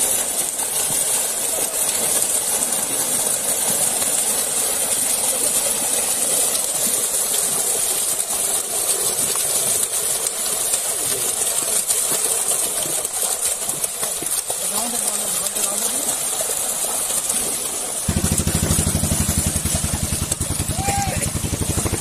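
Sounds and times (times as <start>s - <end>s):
fish thrashing and splashing: 0.0s - 22.0s.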